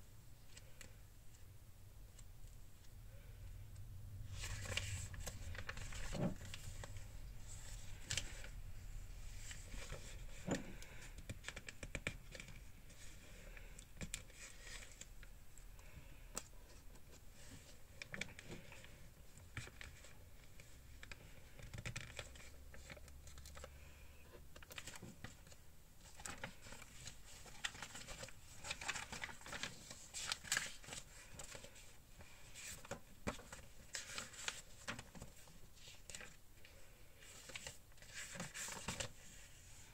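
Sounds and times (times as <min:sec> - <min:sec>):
paper pages rustling: 0:04.3 - 0:15.3, 0:16.4 - 0:23.9, 0:24.6 - 0:39.9.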